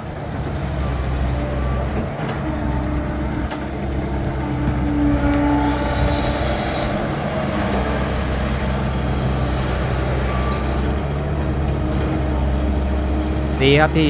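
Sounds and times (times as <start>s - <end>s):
heavy diesel engines rumbling: 0.0s - 14.0s.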